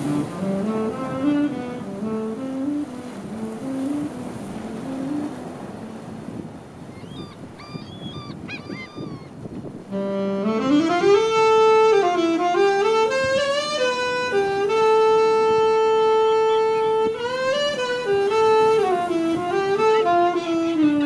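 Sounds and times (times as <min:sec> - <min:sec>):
slow saxophone melody: 0:00.0 - 0:21.0.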